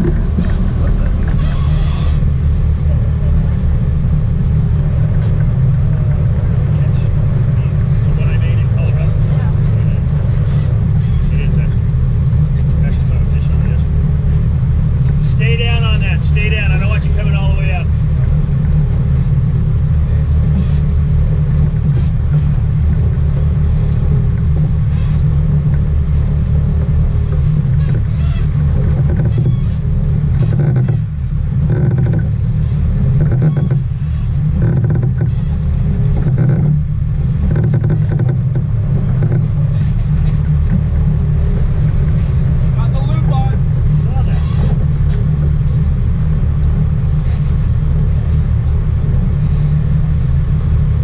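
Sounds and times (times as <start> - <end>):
boat engine droning: 0.0 - 51.0.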